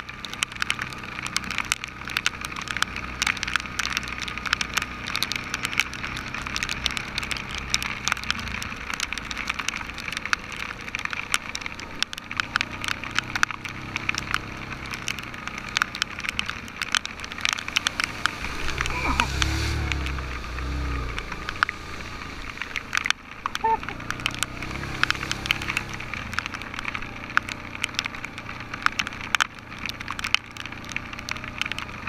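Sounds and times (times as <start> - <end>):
low engine hum: 0.0 - 32.0
raindrops striking microphone: 0.0 - 32.0.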